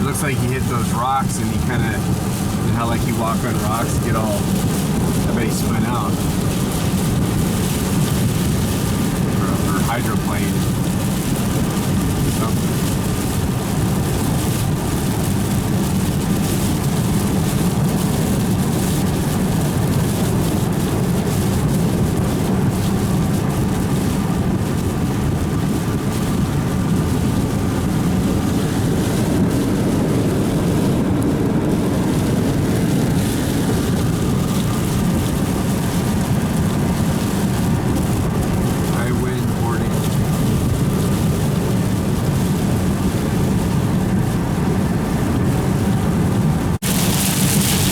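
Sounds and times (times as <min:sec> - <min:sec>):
car driving on wet road: 0:00.0 - 0:47.9.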